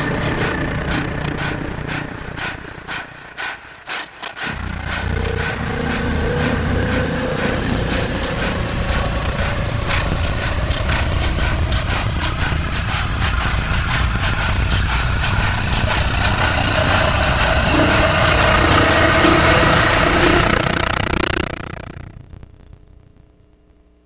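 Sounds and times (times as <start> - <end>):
low rumbling drone: 0.0 - 23.1.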